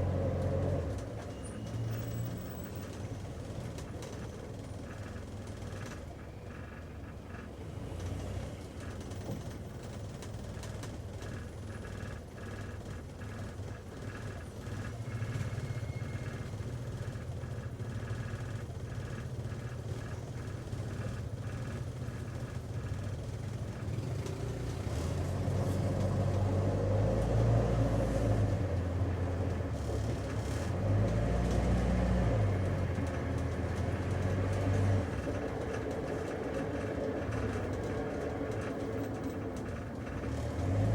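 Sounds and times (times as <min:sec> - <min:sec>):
car engine hum: 0:00.0 - 0:40.9
road rumble: 0:00.0 - 0:40.9.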